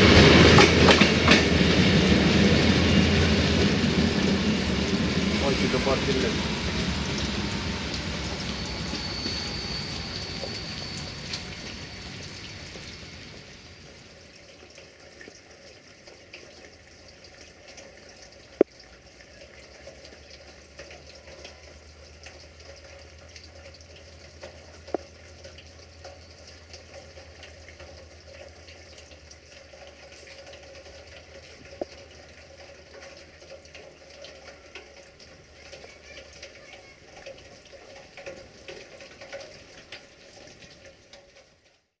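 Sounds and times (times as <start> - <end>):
rain falling: 0.0 - 42.0.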